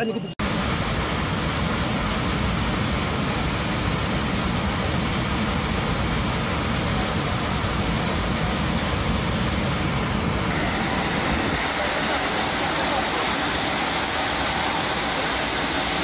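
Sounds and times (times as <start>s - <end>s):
jet engine noise: 0.0s - 16.0s
rushing air roar in cabin: 0.0s - 16.0s.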